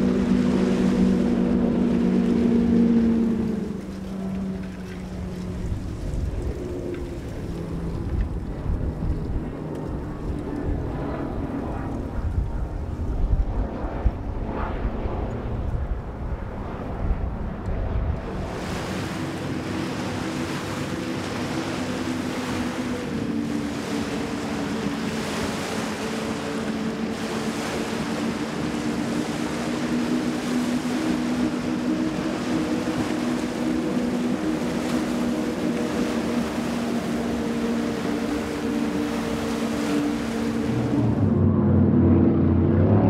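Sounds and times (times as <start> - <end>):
boat engine drone: 0.0 - 43.0
rush of water and wind: 0.0 - 43.0.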